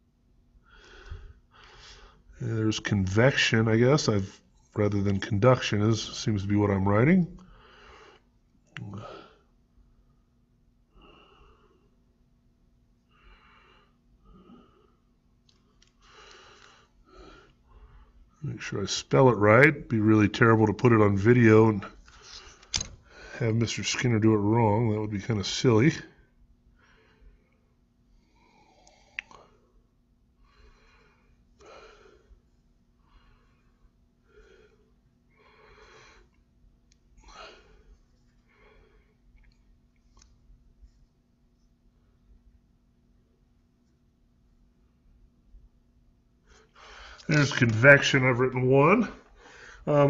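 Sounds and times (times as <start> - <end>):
soft breaths: 0.6 - 12.2, 13.0 - 19.6, 20.4 - 24.0, 26.0 - 42.6, 46.3 - 48.0, 49.0 - 50.0.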